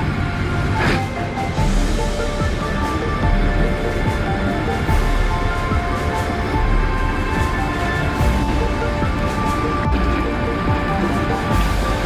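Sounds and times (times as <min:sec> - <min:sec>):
background music with held tones: 0:00.0 - 0:12.0
deep bass beat: 0:01.5 - 0:12.0.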